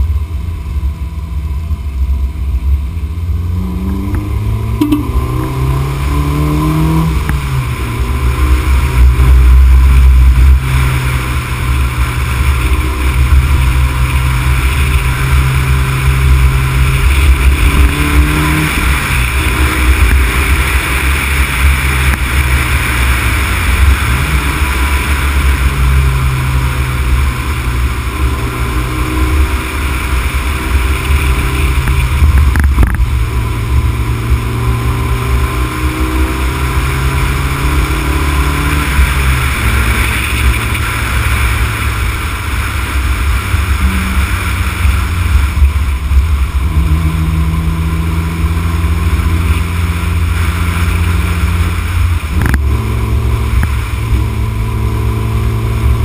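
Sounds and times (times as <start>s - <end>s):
car engine running: 0.0s - 56.0s
road rumble: 0.0s - 56.0s.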